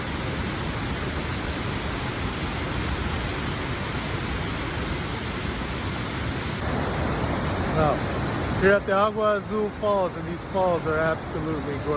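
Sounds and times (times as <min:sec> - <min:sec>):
waterfall roaring: 0:00.0 - 0:11.9.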